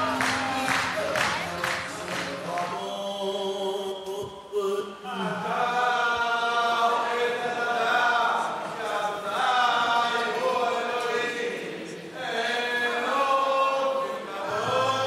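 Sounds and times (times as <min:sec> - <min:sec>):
congregation singing: 0:00.0 - 0:15.0.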